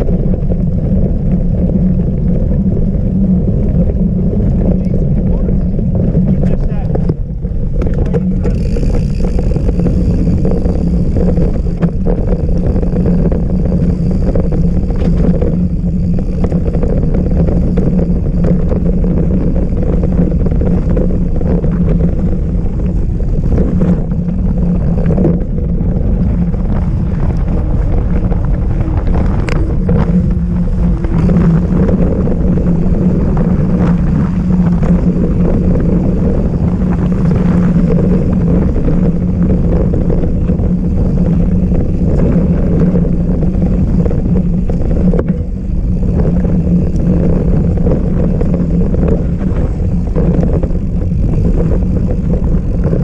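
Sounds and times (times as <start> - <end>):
bike knocking and rattling: 0.0 - 53.0
bike riding rumble and wind: 0.0 - 53.0.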